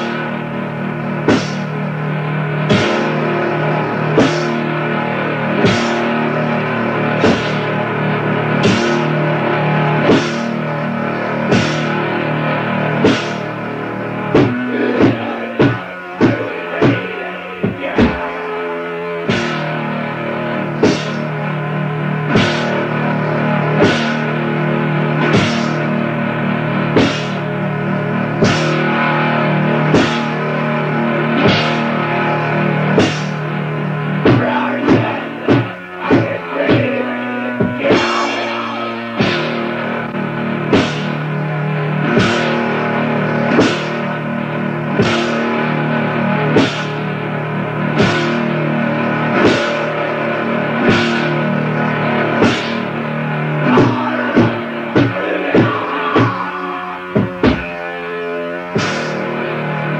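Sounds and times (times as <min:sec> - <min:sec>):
heavy drum and cymbal hits: 0:00.0 - 0:18.5, 0:19.2 - 0:57.8, 0:58.7 - 0:59.4
distorted guitar chords: 0:00.0 - 0:59.9.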